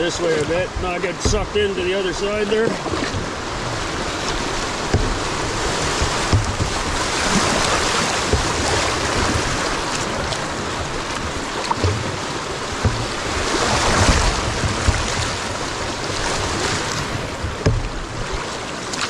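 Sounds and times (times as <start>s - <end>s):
low thumps: 0.0s - 18.5s
rushing whitewater: 0.0s - 19.0s.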